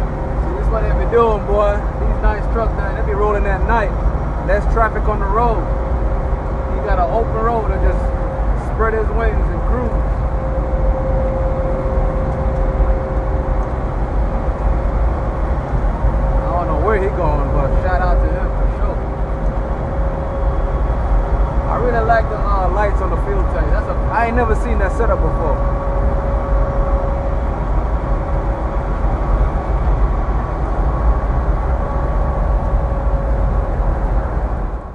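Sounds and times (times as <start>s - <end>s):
constant steady hum: 0.0s - 34.9s
faint constant whine: 0.0s - 34.9s
highway traffic rumble: 0.0s - 34.9s
truck engine and road noise: 0.0s - 34.9s.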